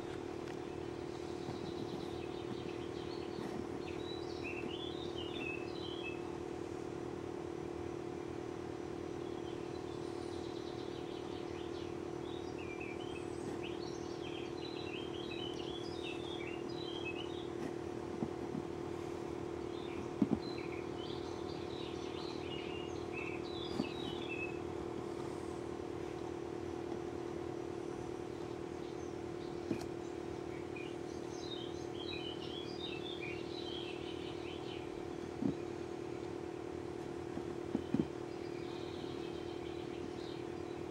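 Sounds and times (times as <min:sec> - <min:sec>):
birds chirping: 0:00.0 - 0:40.9
steady mechanical hum: 0:00.0 - 0:40.9.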